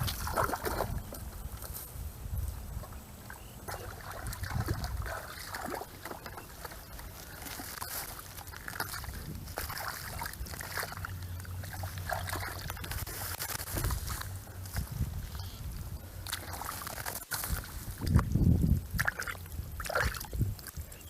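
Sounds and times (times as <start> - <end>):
small splashes: 0.0 - 1.2, 2.9 - 15.5, 16.2 - 21.0
water sloshing and trickling: 0.0 - 21.0.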